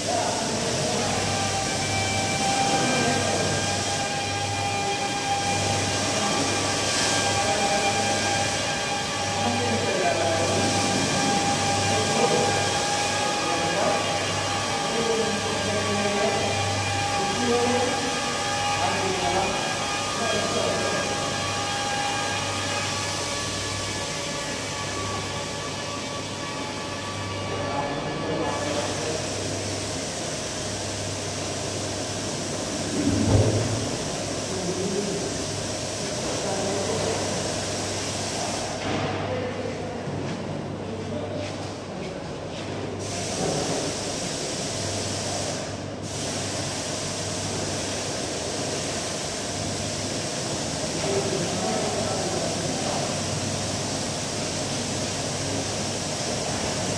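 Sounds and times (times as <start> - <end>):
car-polishing machines whirring: 0.0 - 56.9.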